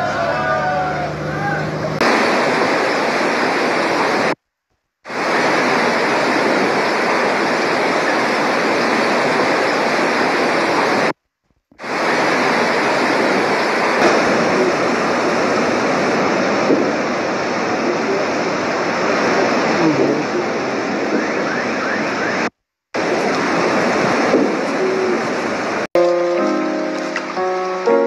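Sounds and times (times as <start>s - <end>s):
floodwater rushing: 0.0s - 4.4s, 5.1s - 11.2s, 11.8s - 28.0s.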